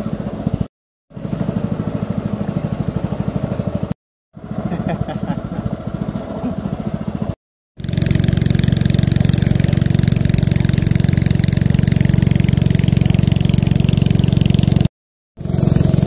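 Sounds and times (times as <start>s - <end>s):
small boat motor chugging: 0.0s - 16.0s.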